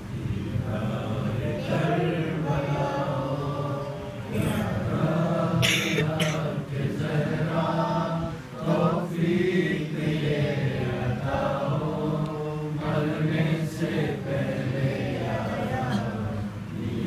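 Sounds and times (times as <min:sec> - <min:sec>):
boy chanting: 0:00.3 - 0:17.0.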